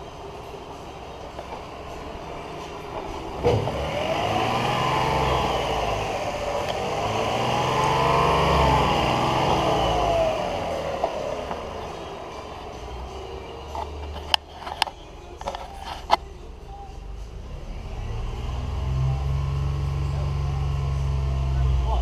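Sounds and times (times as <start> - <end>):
car engine starting and revving: 1.2 - 14.8, 17.1 - 22.0.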